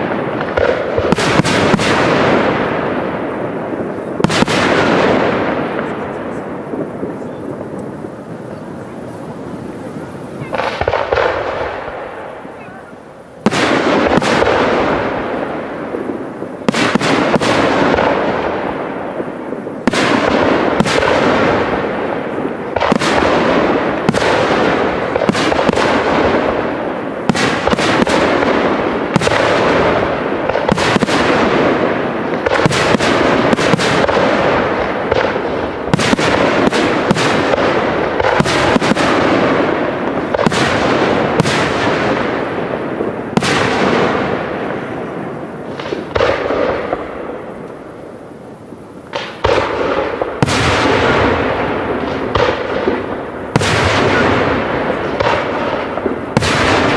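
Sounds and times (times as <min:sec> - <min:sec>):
firework shells bursting: 0:00.0 - 0:56.9.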